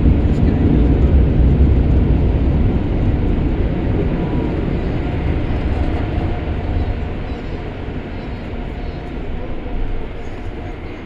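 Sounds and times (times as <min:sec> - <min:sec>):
car wash rumble and rush: 0:00.0 - 0:11.0.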